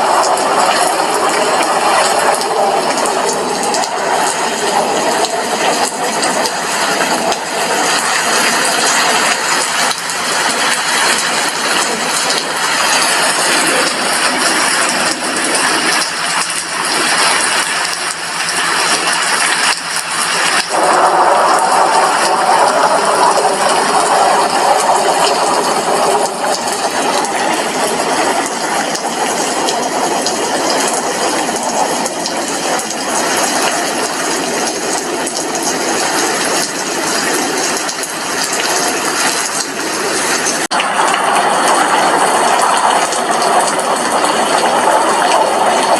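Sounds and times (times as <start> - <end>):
rain on a glass window: 0.0 - 45.9.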